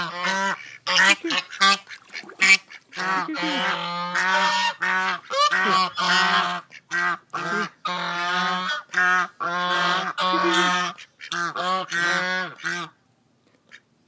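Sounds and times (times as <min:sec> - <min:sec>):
geese honking: 0:00.0 - 0:12.9.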